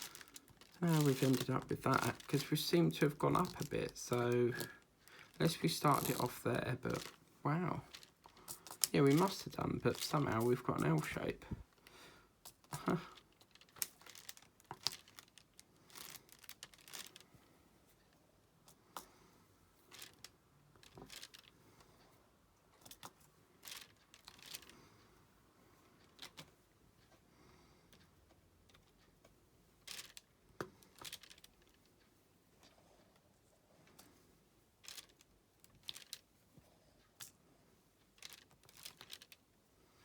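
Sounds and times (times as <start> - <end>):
small clicks and rustles: 0.0 - 40.0.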